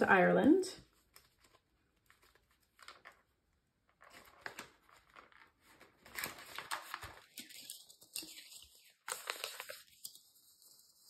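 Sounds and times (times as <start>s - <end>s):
banknotes crinkling and rustling: 0.8s - 11.0s.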